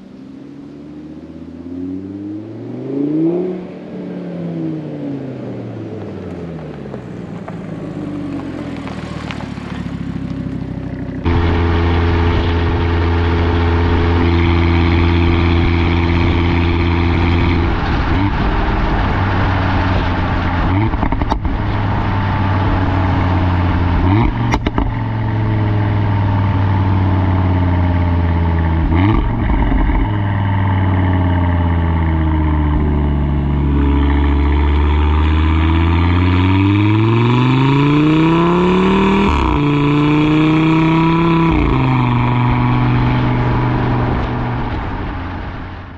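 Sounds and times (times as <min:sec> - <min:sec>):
car engine and exhaust: 0:00.0 - 0:45.9.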